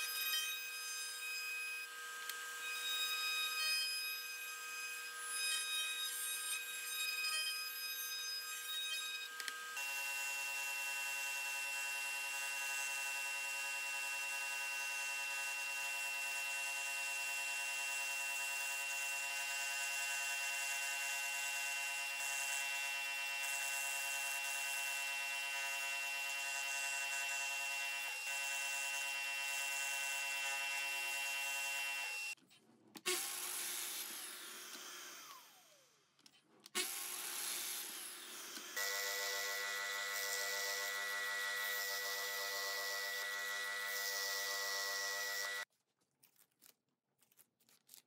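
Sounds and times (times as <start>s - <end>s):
scroll saw buzzing: 0.0s - 32.4s, 33.0s - 45.7s.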